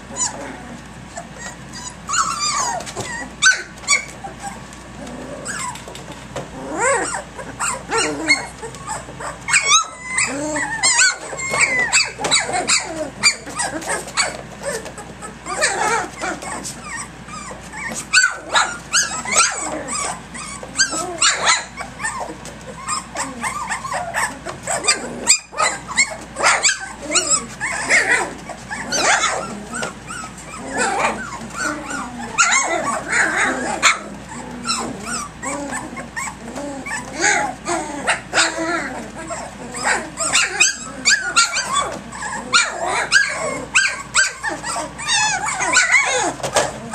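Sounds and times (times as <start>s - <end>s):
puppies yipping and whining: 0.0s - 46.9s.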